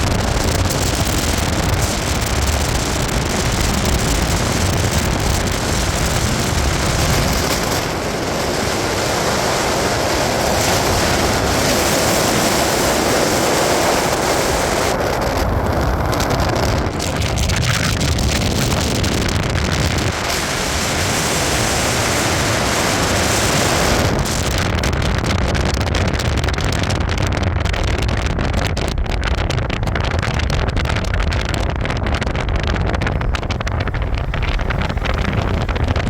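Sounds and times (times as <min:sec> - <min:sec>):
moving vehicle rumble: 0:00.0 - 0:36.0
wind on microphone: 0:00.0 - 0:36.0.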